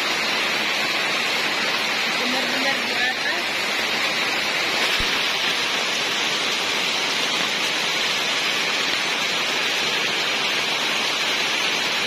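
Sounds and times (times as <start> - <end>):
rain falling on foliage: 0.0 - 12.0.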